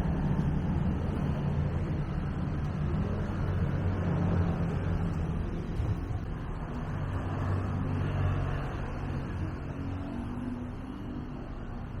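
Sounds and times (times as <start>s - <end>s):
passing motor vehicle: 0.0s - 12.0s
road noise: 0.0s - 12.0s.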